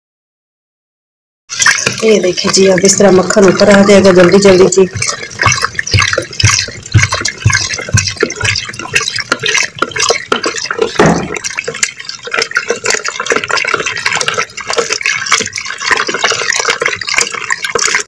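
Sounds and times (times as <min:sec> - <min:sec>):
liquid and ice sloshing in pot: 0:01.5 - 0:18.0.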